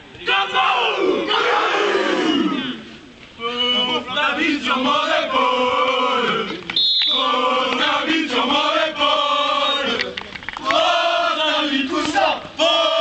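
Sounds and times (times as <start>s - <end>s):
young men chanting together: 0.3s - 2.8s, 3.4s - 13.0s.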